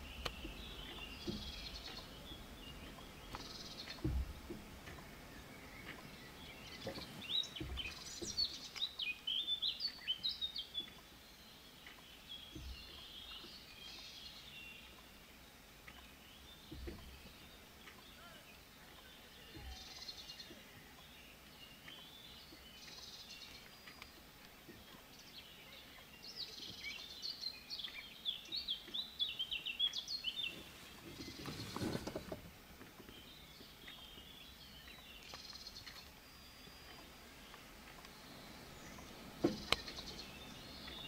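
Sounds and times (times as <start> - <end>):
songbirds singing: 0.0 - 41.0.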